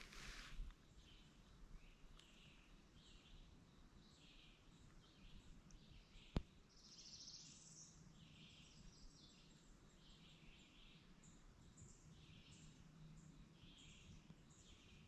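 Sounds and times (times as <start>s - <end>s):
songbird chirps: 0.0s - 15.0s.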